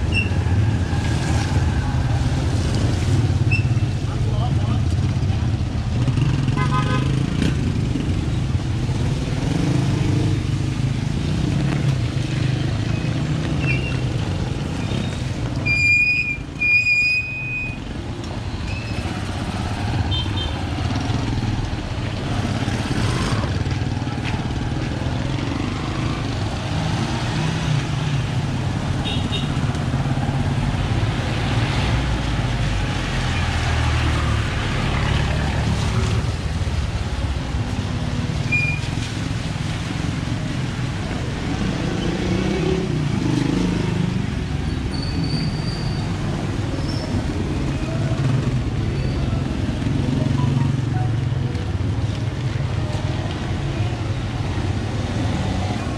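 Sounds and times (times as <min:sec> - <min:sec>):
street traffic passing: 0:00.0 - 0:55.9.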